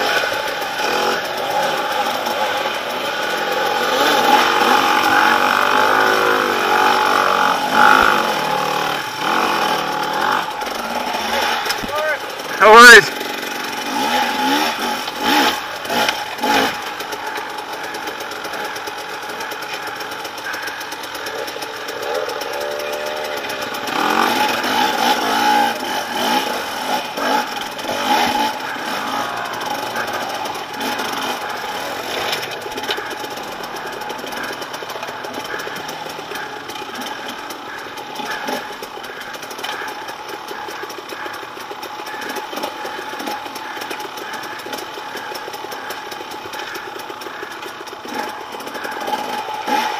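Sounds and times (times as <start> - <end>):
dirt bike engines blipping: 0.0 - 49.9.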